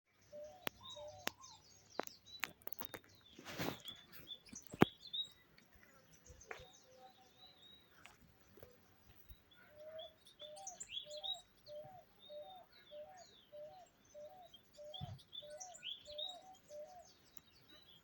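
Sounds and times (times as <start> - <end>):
songbirds chirping: 0.1 - 18.0.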